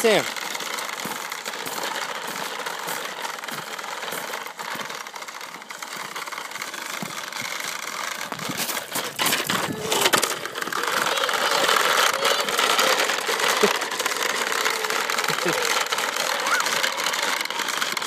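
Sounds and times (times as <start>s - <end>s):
toy lawnmower rattling on gravel: 0.0s - 18.0s.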